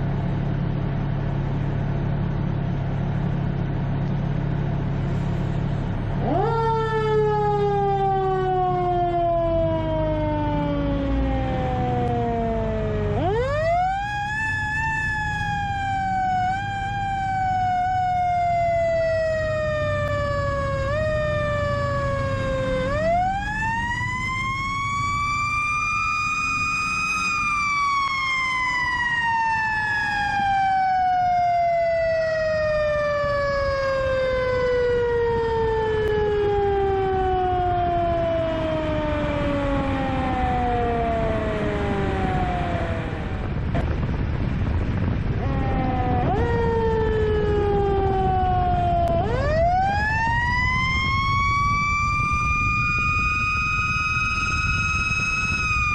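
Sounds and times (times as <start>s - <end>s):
steady low rumble: 0.0s - 55.9s
fire truck siren: 2.8s - 55.9s.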